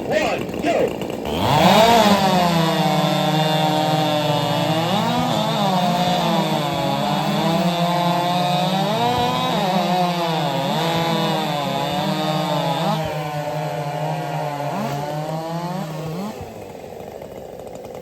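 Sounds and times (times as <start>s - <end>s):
racing chainsaws cutting wood: 0.0s - 18.0s.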